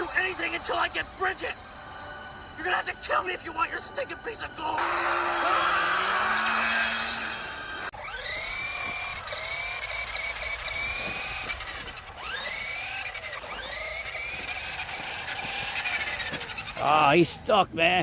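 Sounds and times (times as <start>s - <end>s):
toy car electric motor whining: 0.0s - 17.5s.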